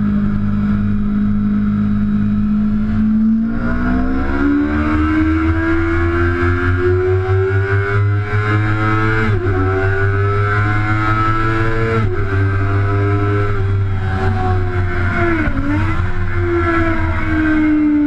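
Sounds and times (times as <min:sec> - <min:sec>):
motorcycle engine at full throttle: 0:00.0 - 0:18.0.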